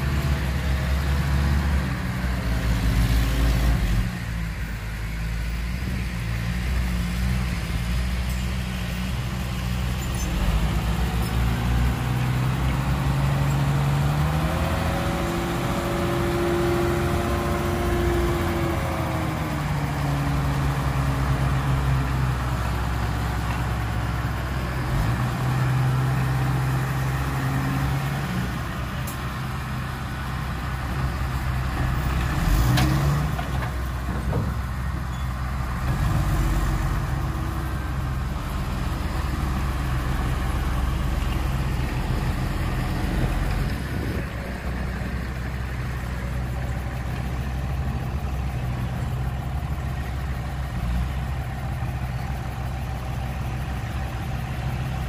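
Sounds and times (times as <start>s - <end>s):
diesel engine idling: 0.0s - 32.7s, 33.3s - 55.0s.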